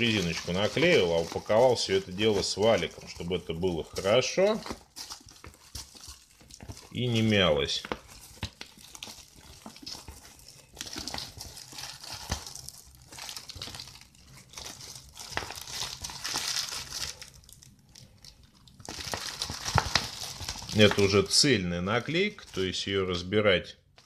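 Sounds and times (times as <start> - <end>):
plastic film crinkling: 0.0 - 23.3.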